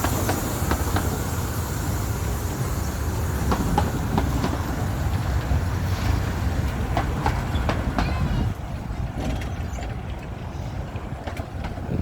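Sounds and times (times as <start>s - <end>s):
miniature train rumbling: 0.0s - 12.0s
wheels clicking over rail joints: 0.0s - 12.0s.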